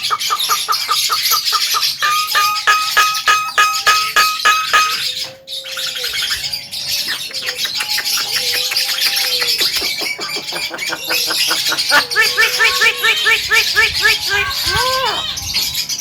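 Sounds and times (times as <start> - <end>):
myna chattering and whistling: 0.0 - 15.8.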